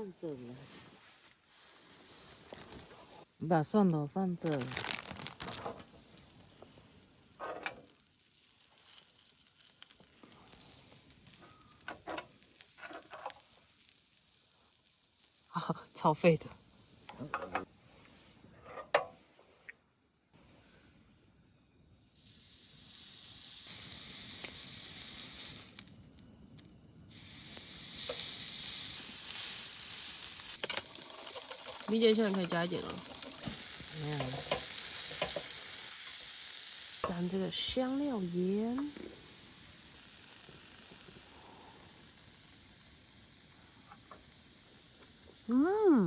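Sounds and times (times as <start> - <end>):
food sizzling on a hot pan: 0.2 - 18.3, 21.6 - 46.0.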